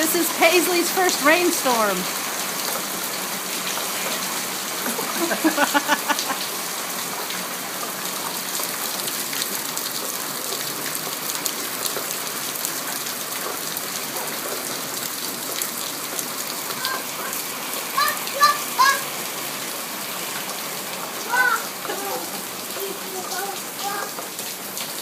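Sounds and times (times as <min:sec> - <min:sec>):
rain hissing: 0:00.0 - 0:25.0
raindrops ticking on surfaces: 0:00.0 - 0:25.0.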